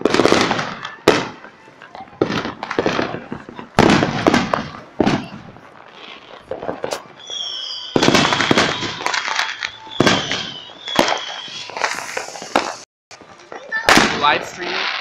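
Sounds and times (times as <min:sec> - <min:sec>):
fireworks bangs and crackling: 0:00.0 - 0:15.0
high whistling firework: 0:00.0 - 0:15.0.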